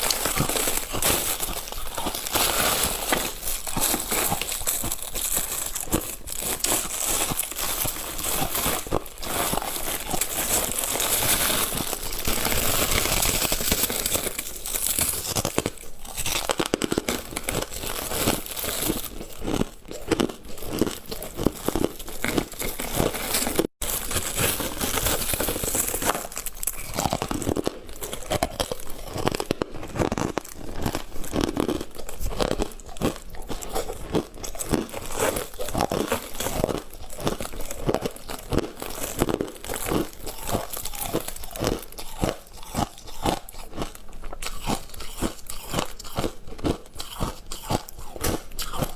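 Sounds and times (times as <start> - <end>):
crunching ice while chewing: 0.0 - 48.9.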